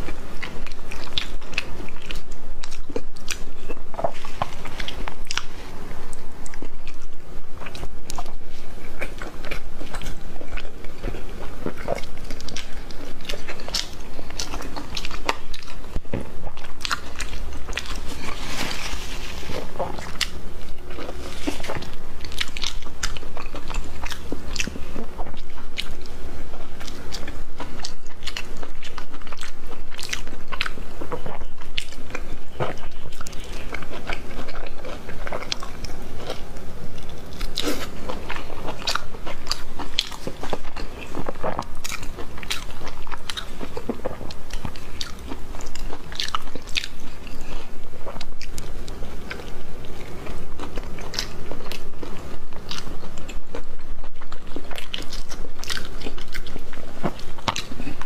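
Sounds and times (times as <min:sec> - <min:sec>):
person chewing meat: 0:00.0 - 0:58.0.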